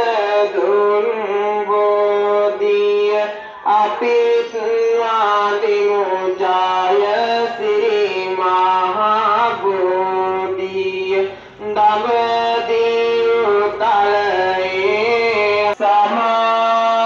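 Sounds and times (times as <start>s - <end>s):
person chanting long notes: 0.0s - 17.0s.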